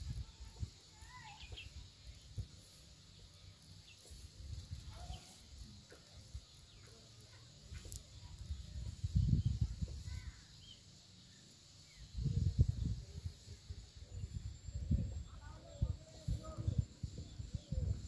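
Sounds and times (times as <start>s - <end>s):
bird calls and chirps: 0.0s - 13.1s, 14.1s - 18.0s.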